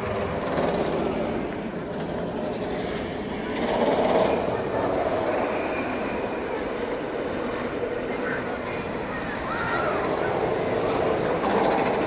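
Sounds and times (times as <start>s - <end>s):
roller coaster train rumbling: 0.0s - 12.0s.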